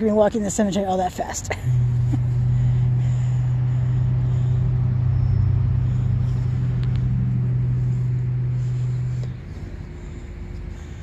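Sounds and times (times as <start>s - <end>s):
loud steady low hum: 0.0s - 11.0s
faint low rumble: 1.4s - 11.0s.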